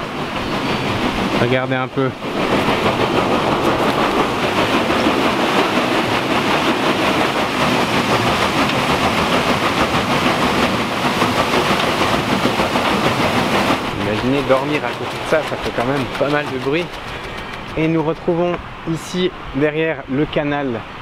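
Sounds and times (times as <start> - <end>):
water wheel splashing and churning: 0.0 - 19.1.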